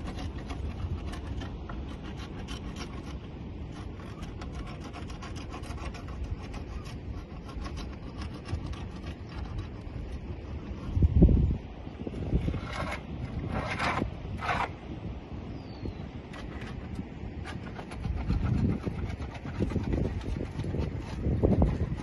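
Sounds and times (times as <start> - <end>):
paint scraper rasping on wood: 0.0 - 11.2, 12.2 - 14.8, 16.2 - 22.0.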